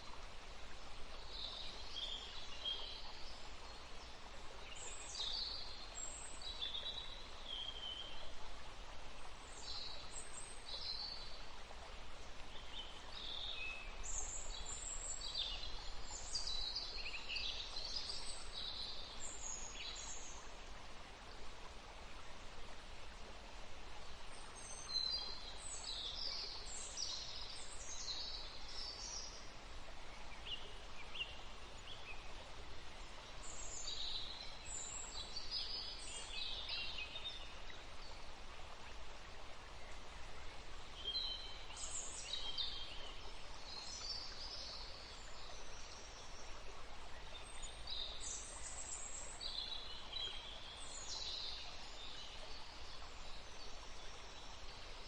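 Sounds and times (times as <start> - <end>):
songbirds chirping: 0.0 - 55.0
steady outdoor hiss: 0.0 - 55.0.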